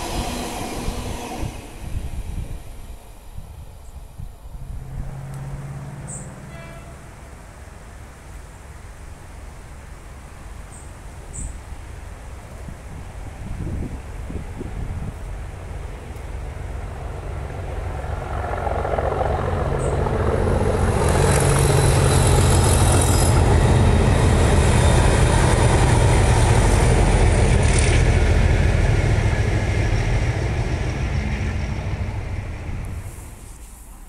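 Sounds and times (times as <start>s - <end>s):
diesel locomotives passing: 0.0s - 34.0s.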